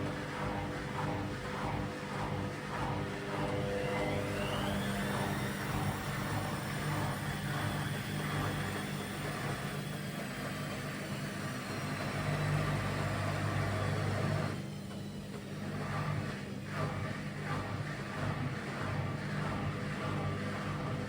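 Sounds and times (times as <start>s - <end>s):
washing machine spin drone: 0.0s - 21.0s.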